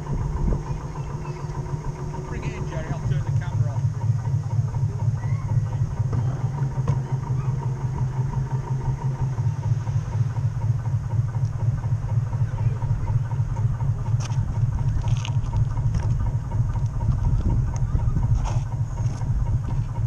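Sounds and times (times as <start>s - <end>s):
model boat motor humming: 0.0s - 20.0s.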